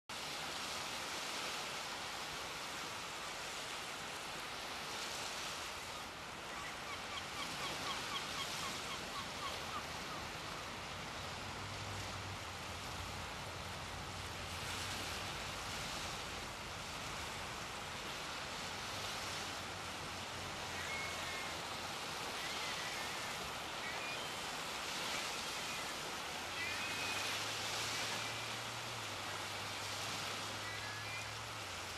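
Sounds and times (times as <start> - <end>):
surf on a shingle beach: 0.1 - 31.9.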